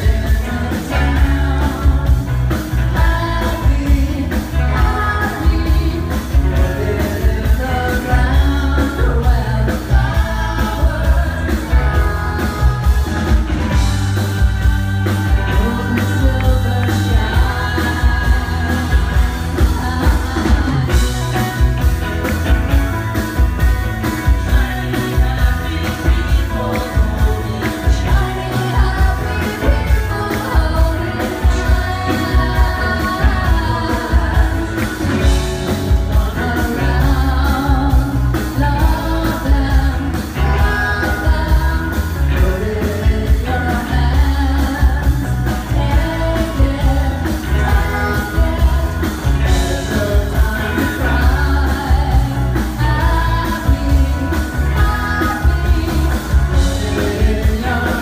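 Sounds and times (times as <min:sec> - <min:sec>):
woman singing into a microphone: 0:00.0 - 0:21.9, 0:24.2 - 0:58.0
drums: 0:00.0 - 0:58.0
electric bass: 0:00.0 - 0:58.0.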